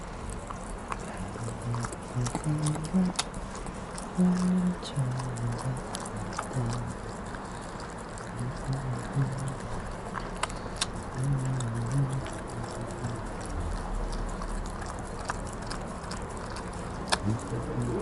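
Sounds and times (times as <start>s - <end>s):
dog chewing and licking: 0.0s - 18.0s
teeth clicking on glass: 0.6s - 18.0s.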